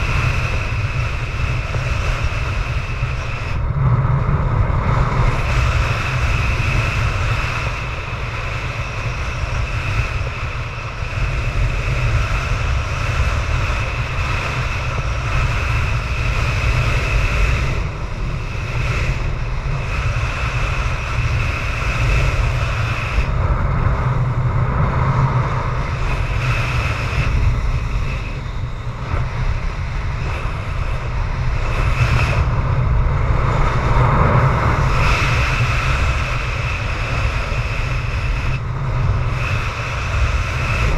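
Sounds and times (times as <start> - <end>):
high wind whistle: 0.0 - 40.9
strong wind buffeting microphone: 0.0 - 40.9.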